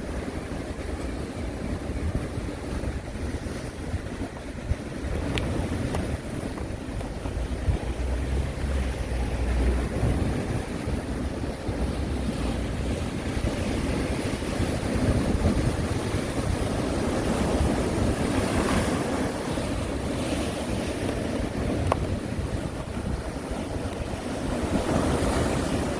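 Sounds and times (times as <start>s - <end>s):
waves breaking and washing ashore: 0.0s - 25.9s
wind buffeting microphone: 0.0s - 25.9s.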